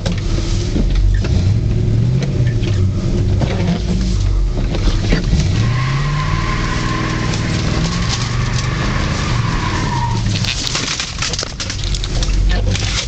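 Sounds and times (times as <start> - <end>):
car engine revving: 0.0 - 11.2
tire squealing: 0.0 - 11.4.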